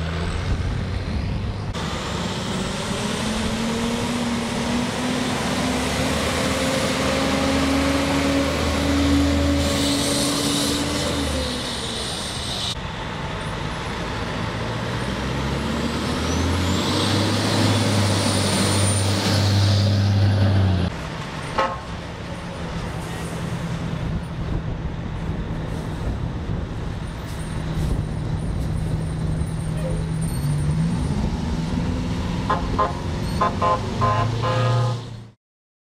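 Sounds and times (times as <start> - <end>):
fire truck diesel engines passing: 0.0 - 35.4.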